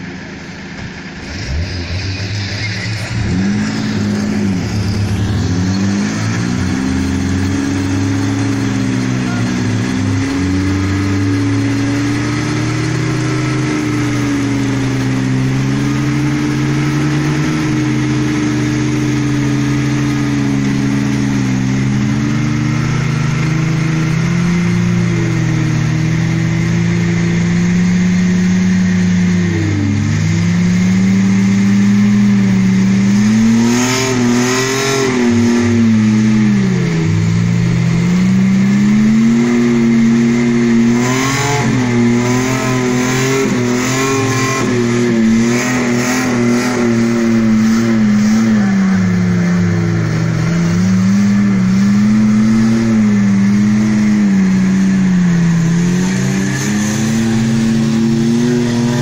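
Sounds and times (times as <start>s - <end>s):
engine running steadily: 0.0s - 59.0s
engines revving hard: 0.0s - 59.0s.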